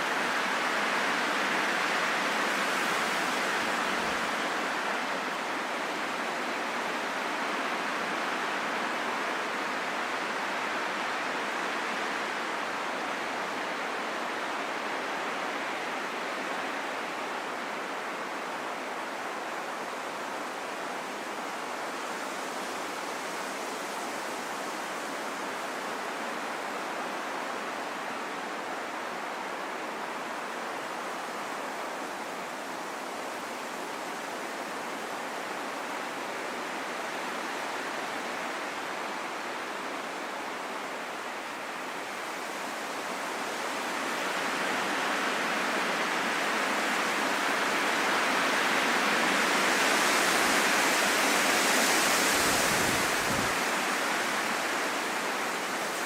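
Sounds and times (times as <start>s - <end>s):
rushing wind: 0.0s - 56.0s.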